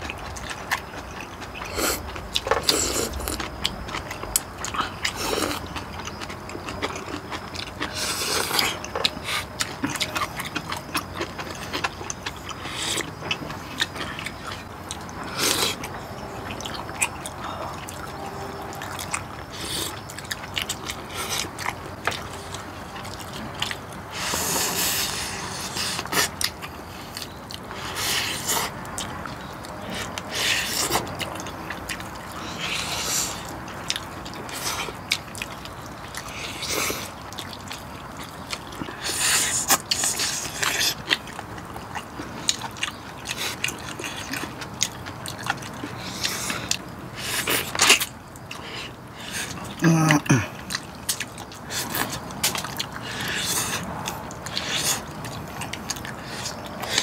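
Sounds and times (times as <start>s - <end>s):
chewing and slurping noodles: 0.0s - 57.0s.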